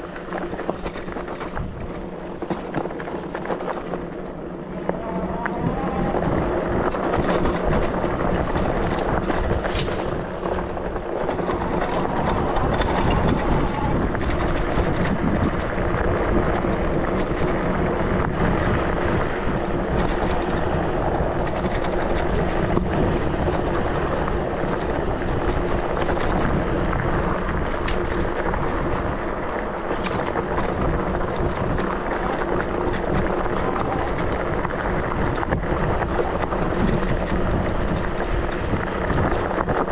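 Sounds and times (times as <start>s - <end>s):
tyre and trail rumble: 0.0s - 39.9s
wind buffeting microphone: 0.0s - 39.9s.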